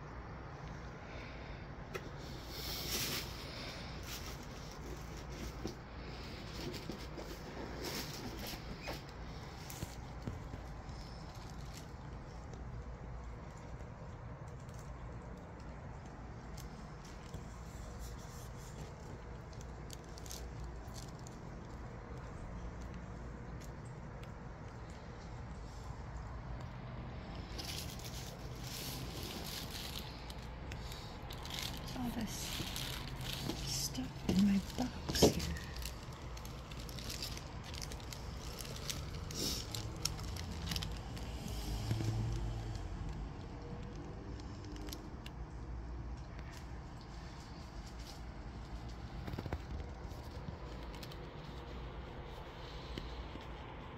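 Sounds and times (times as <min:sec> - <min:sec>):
low background rumble: 0:00.0 - 0:53.9
light clicks and rustles: 0:01.8 - 0:53.9.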